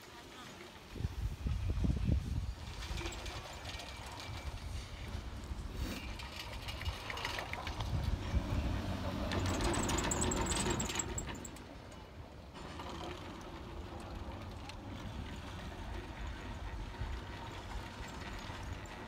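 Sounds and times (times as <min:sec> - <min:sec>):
chairlift clatter and rumble: 0:00.3 - 0:19.0.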